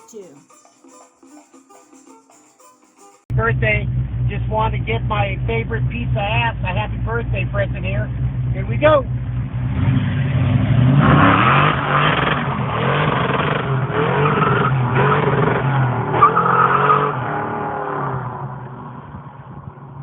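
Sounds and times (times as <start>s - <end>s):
car engine revving: 3.3s - 20.0s.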